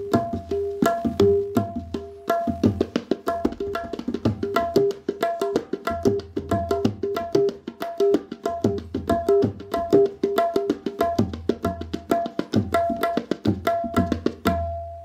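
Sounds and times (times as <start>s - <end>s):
tabla drumming: 0.0s - 15.0s.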